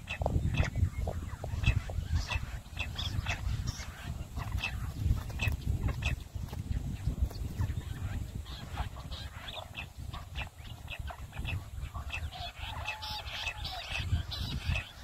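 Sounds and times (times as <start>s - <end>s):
quail high chirps: 0.0s - 15.0s.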